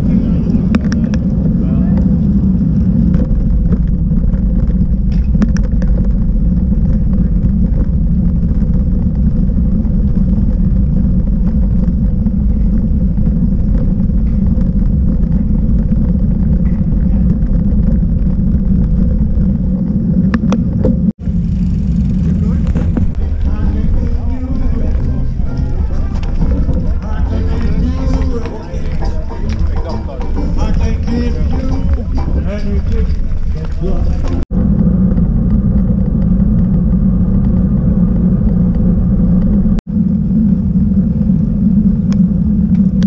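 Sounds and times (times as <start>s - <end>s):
tyre and road rumble: 0.0s - 43.0s
wind buffeting microphone: 0.0s - 43.0s.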